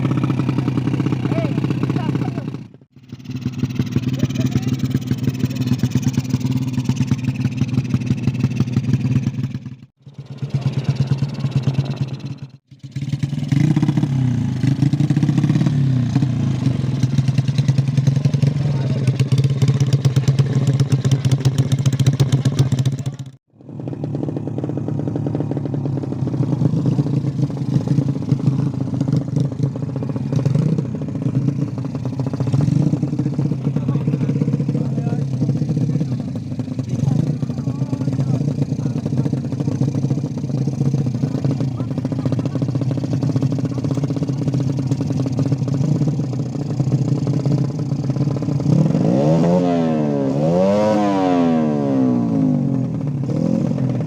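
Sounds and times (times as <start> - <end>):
small engine running: 0.0 - 9.2, 10.0 - 51.2.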